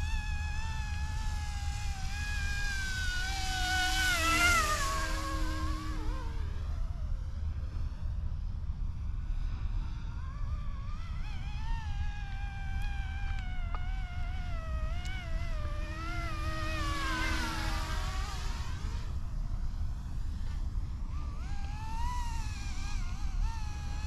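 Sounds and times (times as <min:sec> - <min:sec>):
rc helicopter motor whine: 0:00.0 - 0:24.0
wind rumble on microphone: 0:00.0 - 0:24.0.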